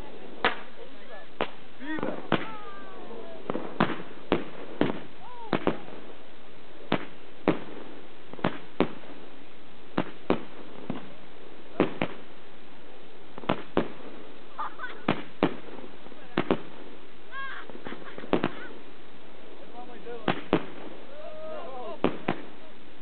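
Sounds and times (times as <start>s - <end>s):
background hiss: 0.0s - 23.0s
fireworks bangs: 0.0s - 23.0s.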